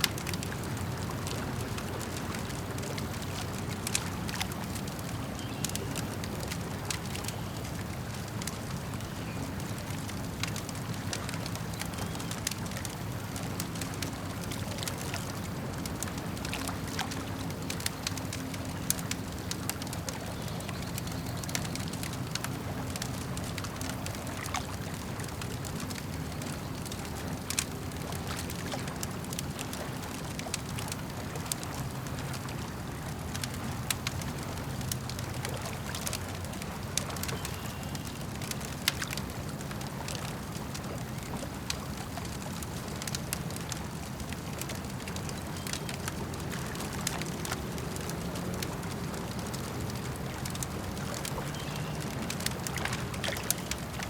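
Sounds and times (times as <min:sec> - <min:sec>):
campfire crackling and popping: 0:00.0 - 0:54.0
lake water lapping: 0:00.0 - 0:54.0.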